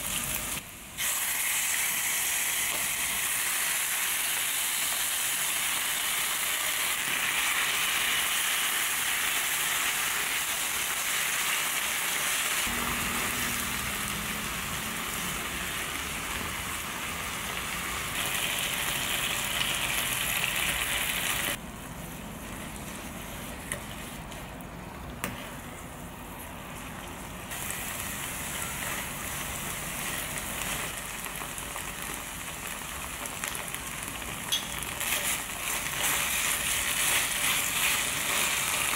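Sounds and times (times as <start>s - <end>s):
food sizzling in a frying pan: 0.0s - 21.6s, 27.5s - 38.9s.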